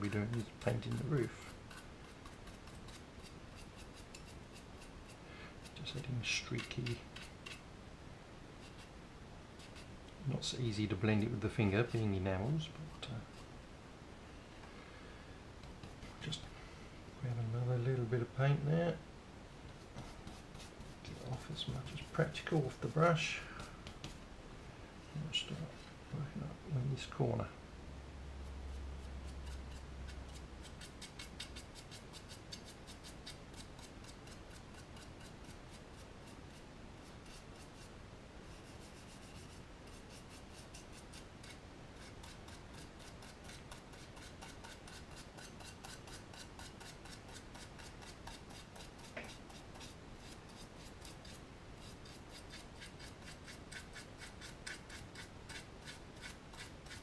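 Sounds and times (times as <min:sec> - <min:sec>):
paintbrush scratching: 0:00.0 - 0:07.6, 0:08.6 - 0:09.0, 0:09.6 - 0:13.5, 0:15.8 - 0:16.4, 0:19.7 - 0:24.2, 0:28.4 - 0:57.0.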